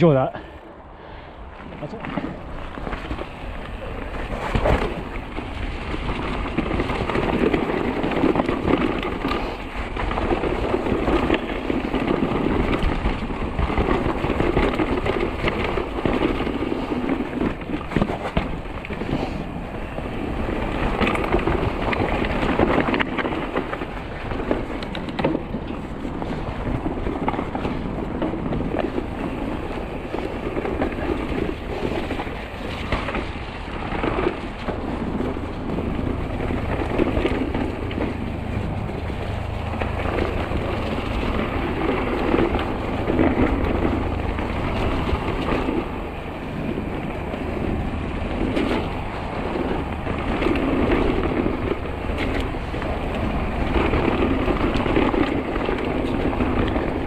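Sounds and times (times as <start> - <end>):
bike tyres rumbling over ground: 0.0 - 57.0
wind buffeting microphone: 0.0 - 57.0.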